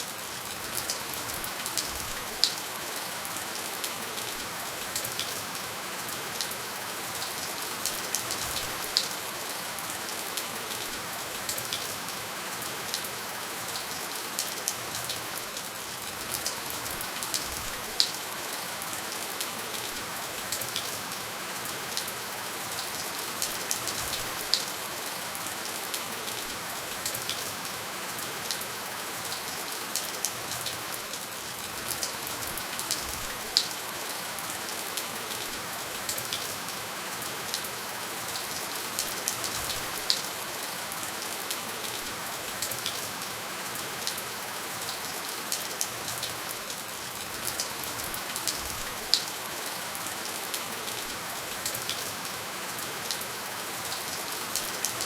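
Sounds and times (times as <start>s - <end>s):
gentle rainfall: 0.0s - 55.0s.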